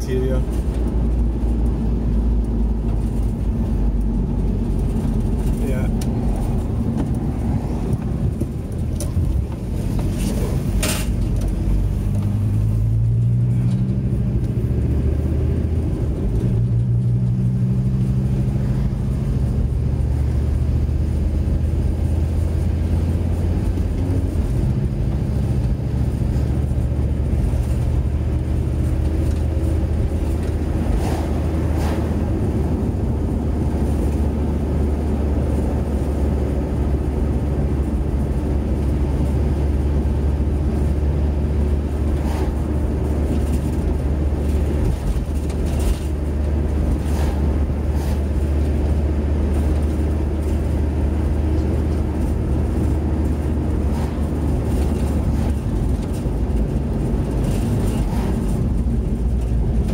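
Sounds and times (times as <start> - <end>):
car engine: 0.0 - 59.9
road noise inside car: 0.0 - 59.9.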